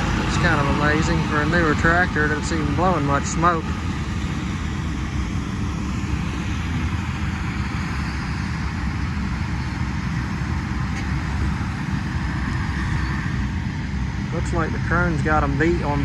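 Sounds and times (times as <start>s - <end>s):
tractors pulling hay balers: 0.0s - 7.0s, 7.6s - 16.0s.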